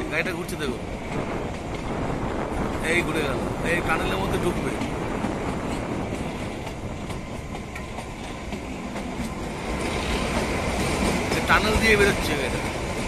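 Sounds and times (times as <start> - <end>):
train rumbling with wheel clatter: 0.0 - 13.0.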